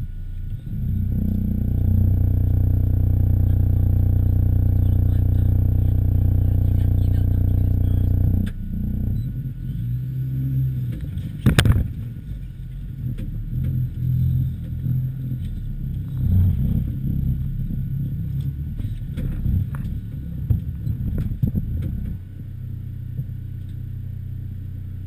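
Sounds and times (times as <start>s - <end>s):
low rumble with rattles: 0.0s - 25.0s
van engine drone: 0.0s - 25.0s.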